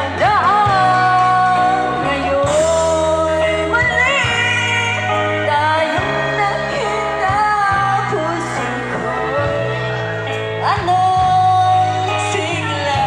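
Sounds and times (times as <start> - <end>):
bass line of low notes: 0.0 - 13.0
electric guitar: 0.0 - 13.0
keyboard: 0.0 - 13.0
woman singing into microphone: 0.0 - 13.0.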